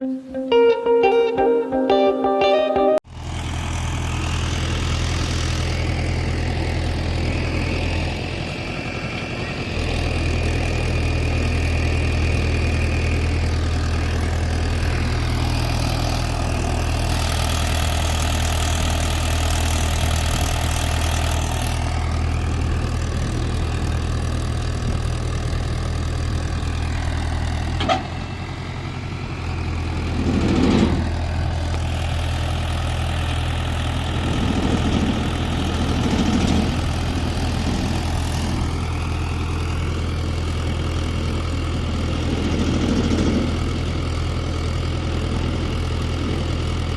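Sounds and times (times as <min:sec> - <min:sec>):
tractor diesel engine running: 0:03.0 - 0:46.9.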